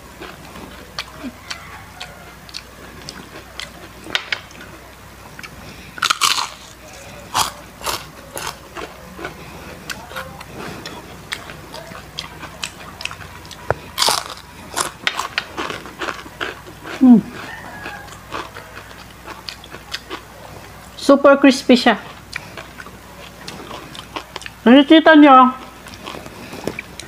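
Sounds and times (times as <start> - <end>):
crunchy chewing: 0.0 - 21.0, 21.9 - 24.7, 25.5 - 27.0.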